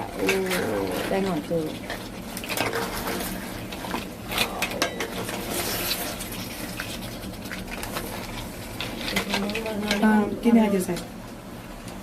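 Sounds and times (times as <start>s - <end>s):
food bubbling in a pot: 0.0s - 12.0s.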